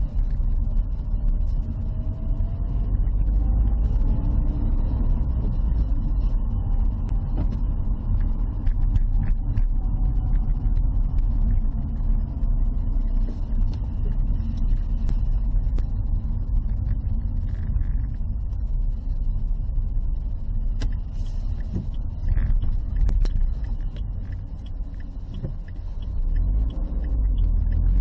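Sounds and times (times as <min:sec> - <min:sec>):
car cabin road rumble: 0:00.0 - 0:28.0
faint whine: 0:00.0 - 0:28.0.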